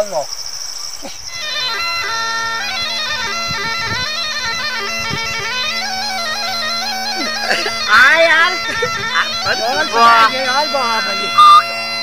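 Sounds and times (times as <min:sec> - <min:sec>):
bagpipe drone: 0:01.2 - 0:12.0
bagpipe melody: 0:01.2 - 0:12.0.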